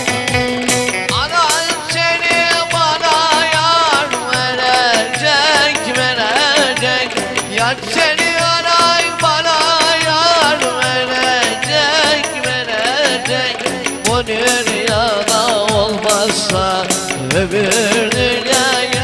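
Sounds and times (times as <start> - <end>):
electric lute melody: 0.0 - 19.0
folk dance music: 0.0 - 19.0
keyboard melody: 0.0 - 19.0
steady drum beat: 0.0 - 19.0.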